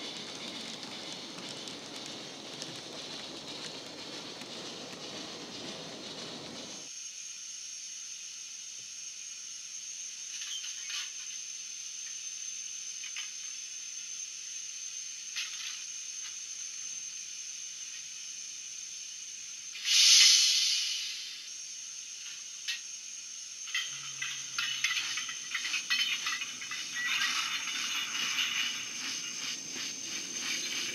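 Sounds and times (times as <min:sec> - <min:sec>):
steam hiss through small speaker: 0:00.0 - 0:30.9.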